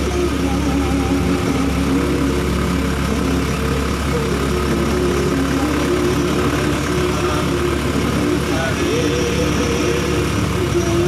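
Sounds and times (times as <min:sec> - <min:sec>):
motorcycle engine running: 0:00.0 - 0:11.0
road and wind rumble: 0:00.0 - 0:11.0.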